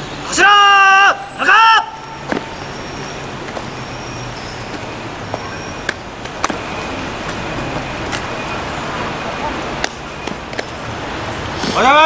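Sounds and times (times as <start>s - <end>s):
distant traffic hum: 0.0s - 12.0s.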